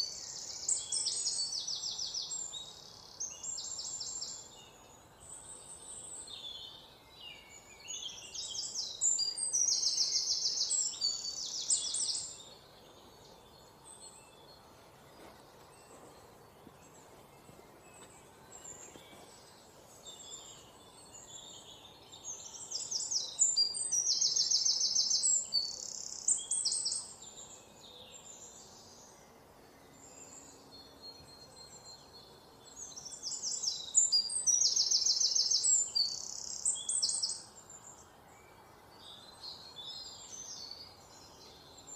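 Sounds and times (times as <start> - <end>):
bird trilling song: 0.0 - 41.9
faint steady hiss: 0.0 - 41.9
soft bird chirps: 0.0 - 41.9.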